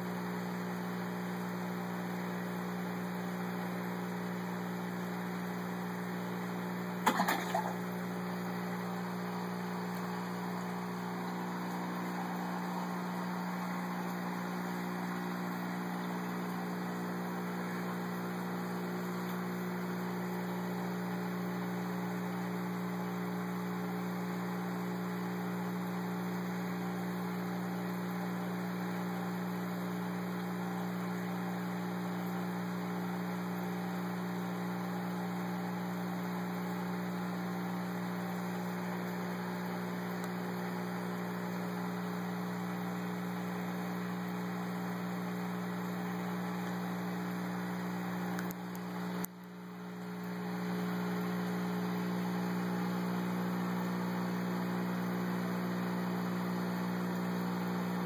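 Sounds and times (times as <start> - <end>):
aquarium filter and air pump: 0.0 - 58.0.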